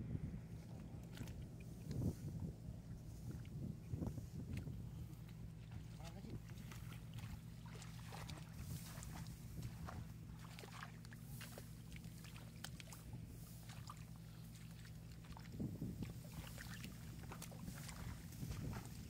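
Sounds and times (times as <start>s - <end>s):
steady low hum: 0.0s - 19.0s
splashing in muddy water: 0.7s - 19.0s.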